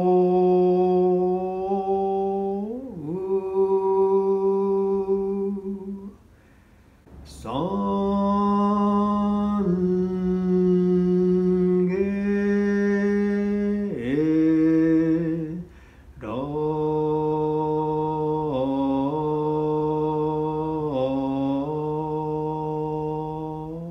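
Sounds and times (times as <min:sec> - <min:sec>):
person chanting in long notes: 0:00.0 - 0:06.2, 0:07.2 - 0:23.9.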